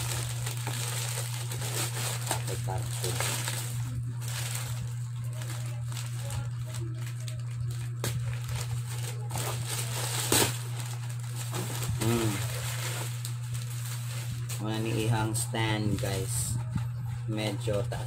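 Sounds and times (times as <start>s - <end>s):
plastic packaging crinkling: 0.0s - 16.7s.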